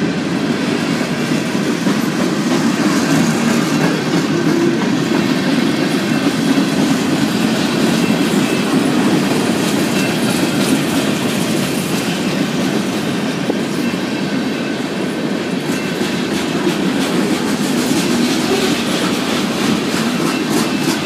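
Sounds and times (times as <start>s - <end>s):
freight train wheels rumbling: 0.0s - 21.0s
wheels clicking over rail joints: 0.0s - 21.0s.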